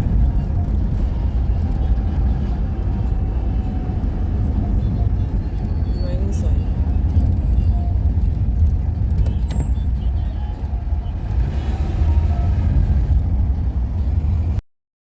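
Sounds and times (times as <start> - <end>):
low rumble of road vehicle: 0.0 - 14.6.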